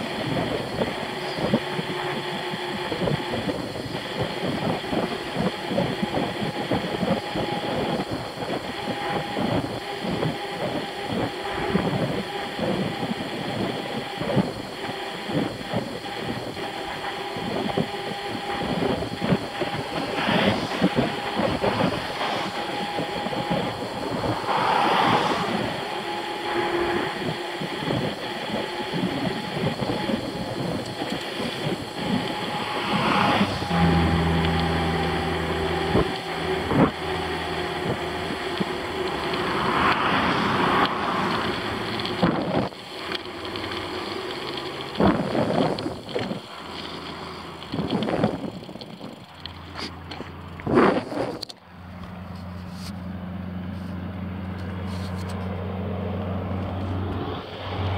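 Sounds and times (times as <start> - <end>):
low steady hum: 0.0 - 50.7
rushing wind: 0.0 - 51.6.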